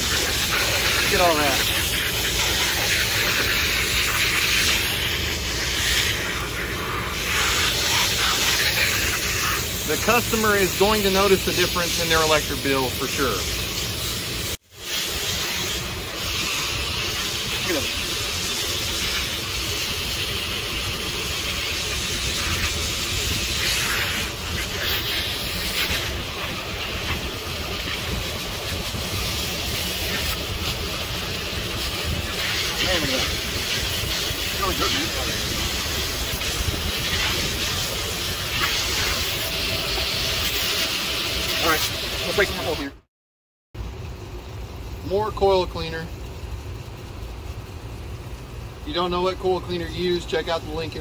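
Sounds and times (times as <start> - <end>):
hose spray hissing: 0.0 - 43.0.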